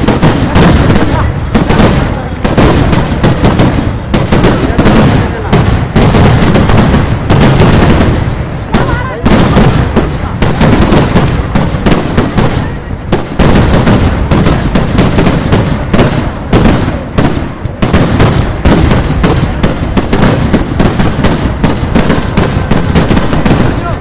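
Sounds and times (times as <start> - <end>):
rapid firework bangs: 0.0 - 24.0.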